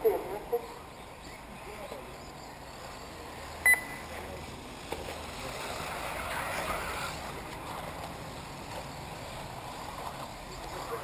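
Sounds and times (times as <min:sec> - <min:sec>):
rc cars running on dirt: 0:00.1 - 0:11.0.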